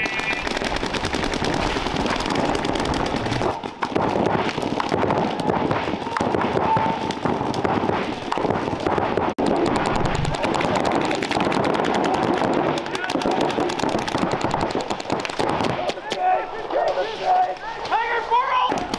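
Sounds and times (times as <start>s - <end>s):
rapid paintball marker popping: 0.0s - 16.2s.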